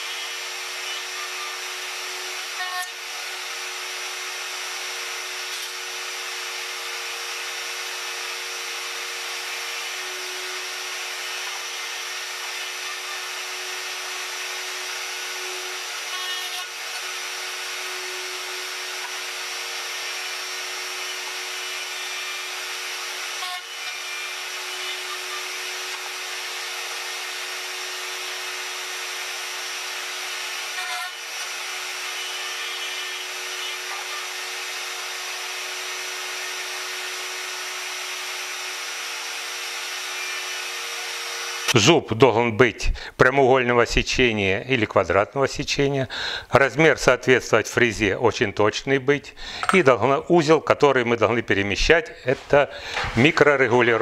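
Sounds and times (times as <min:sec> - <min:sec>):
router cutting wood: 0:00.0 - 0:41.8, 0:52.0 - 0:54.0.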